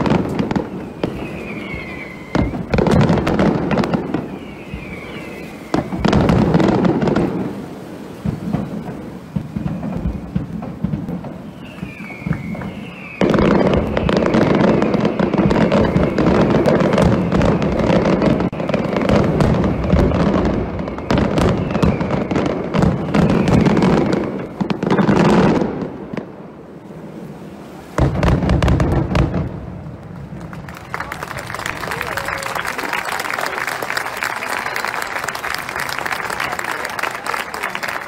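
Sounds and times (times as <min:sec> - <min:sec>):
firework whistles falling: 0:00.0 - 0:25.6, 0:30.6 - 0:38.0
fireworks crackling: 0:00.0 - 0:38.0.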